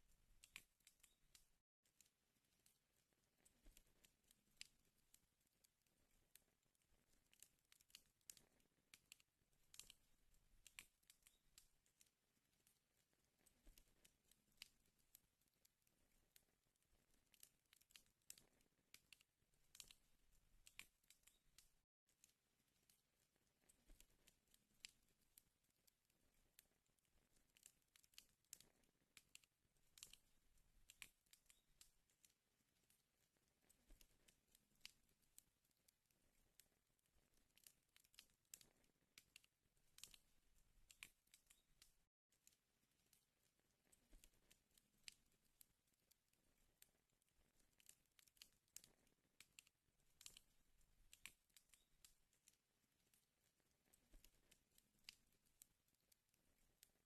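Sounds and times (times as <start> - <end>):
wood fire crackling: 0.0 - 57.0
fire pops and snaps: 0.3 - 43.2, 43.8 - 45.7, 46.8 - 53.2, 53.8 - 55.6.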